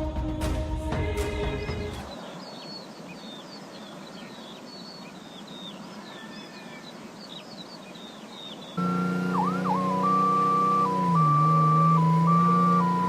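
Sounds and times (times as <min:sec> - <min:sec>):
outdoor ambience hiss: 0:00.0 - 0:13.0
small birds chirping: 0:01.0 - 0:13.0.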